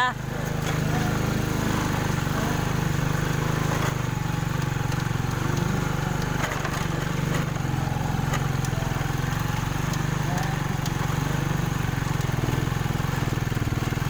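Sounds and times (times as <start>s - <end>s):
vehicle engine running: 0.0s - 14.0s
knocks and rattles from bumps: 0.4s - 14.0s.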